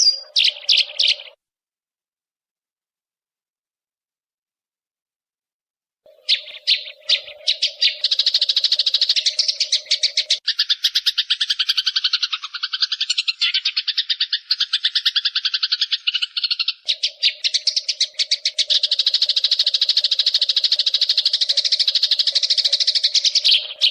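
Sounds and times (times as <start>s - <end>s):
sparrow chattering call: 0.0s - 1.4s, 6.1s - 23.9s.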